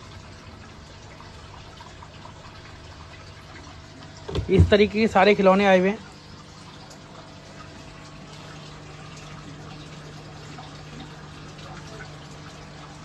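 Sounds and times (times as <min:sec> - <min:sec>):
low steady hum: 0:00.0 - 0:13.0
water trickling and bubbling: 0:00.0 - 0:13.0.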